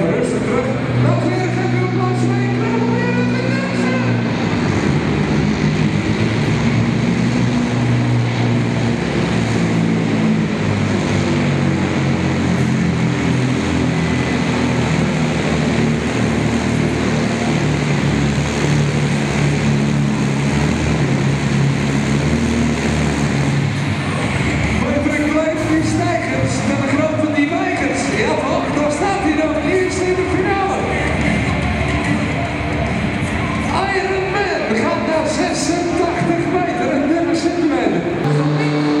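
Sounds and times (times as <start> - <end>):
diesel truck engine roaring: 0.0 - 39.0.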